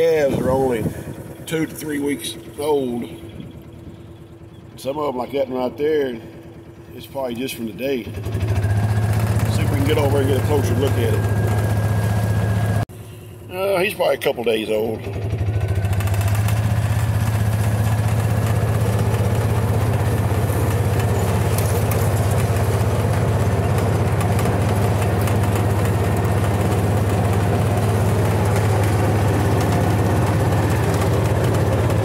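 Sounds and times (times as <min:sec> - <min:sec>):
utility vehicle engine running: 0:00.0 - 0:32.0.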